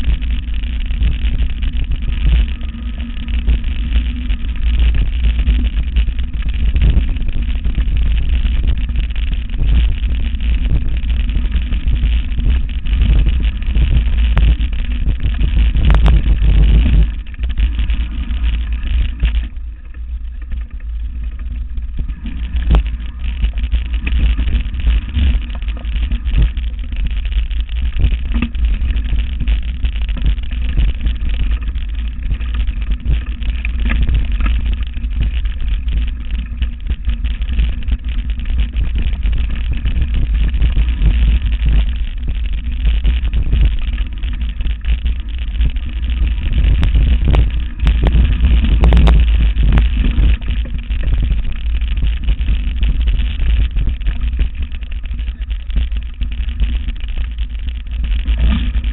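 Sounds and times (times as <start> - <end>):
bike knocking on bumps: 0.0 - 58.9
camera rattling on bike: 0.0 - 58.9
wind rumble: 0.0 - 58.9.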